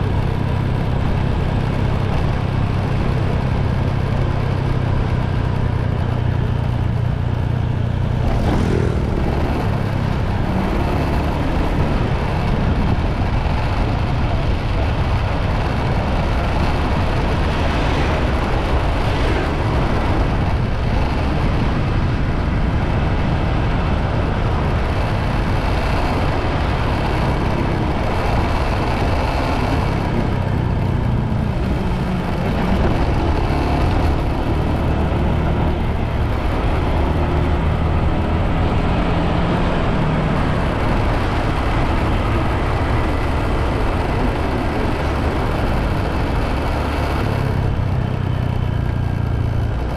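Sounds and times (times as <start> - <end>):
motorbike engine running: 0.0 - 49.9
wind and road noise: 0.0 - 49.9.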